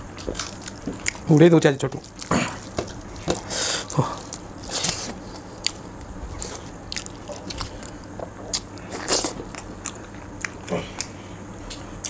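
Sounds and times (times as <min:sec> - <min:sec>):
chewing and mouth smacks: 0:00.2 - 0:01.3, 0:02.0 - 0:11.9.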